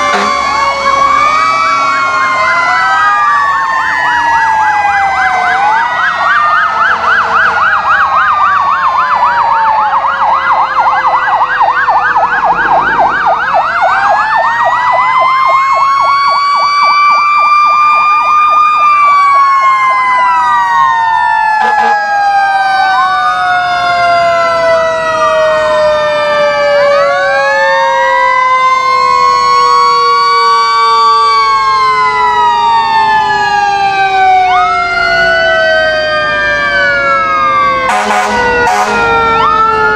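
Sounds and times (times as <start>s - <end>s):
fast yelping siren: 0.0s - 39.9s
long siren tone winding down: 0.0s - 39.9s
wailing sirens: 0.0s - 39.9s.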